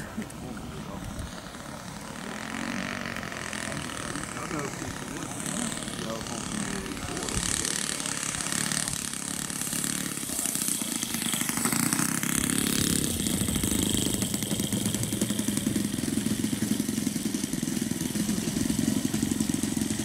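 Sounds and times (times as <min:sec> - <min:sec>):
model plane engine: 0:00.0 - 0:20.0.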